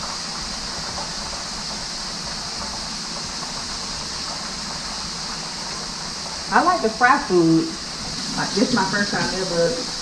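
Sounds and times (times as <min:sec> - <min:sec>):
fish fillets deep-frying sizzling: 0:00.0 - 0:10.0.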